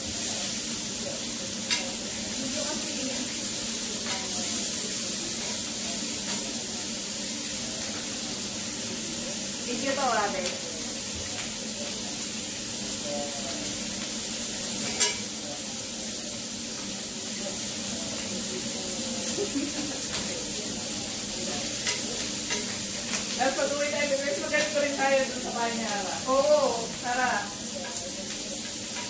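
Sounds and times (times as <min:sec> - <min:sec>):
meat sizzling on a grill: 0:00.0 - 0:29.0.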